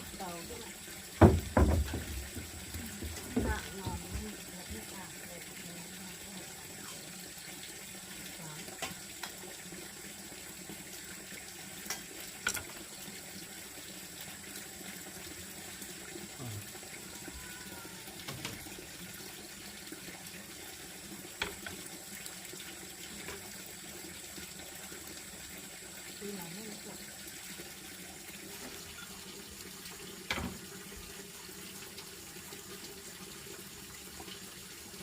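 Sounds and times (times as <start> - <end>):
water running: 0.0 - 35.0.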